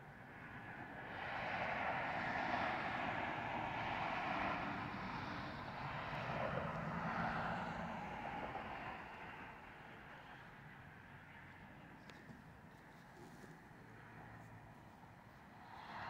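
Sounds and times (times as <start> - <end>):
airplane flying over: 0.1 - 16.0.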